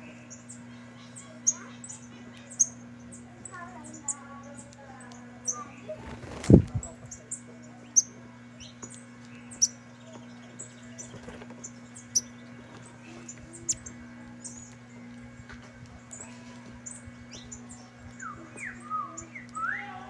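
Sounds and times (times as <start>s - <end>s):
finches chirping: 0.0s - 20.0s
steady low hum: 0.0s - 20.0s.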